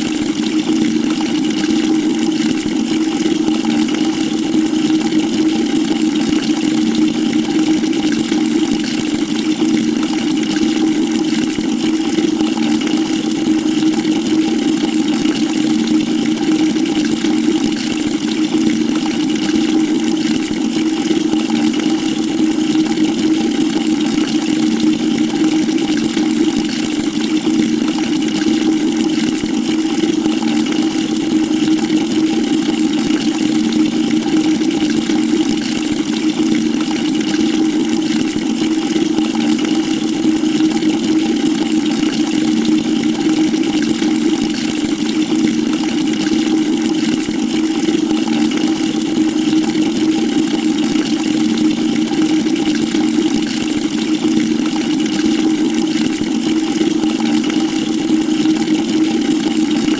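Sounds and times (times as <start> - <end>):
water pouring into a bucket: 0.0 - 59.9.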